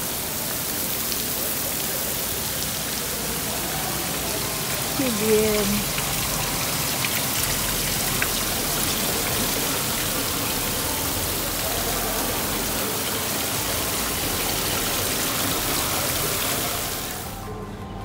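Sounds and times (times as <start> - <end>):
artificial rain hissing: 0.0 - 17.5.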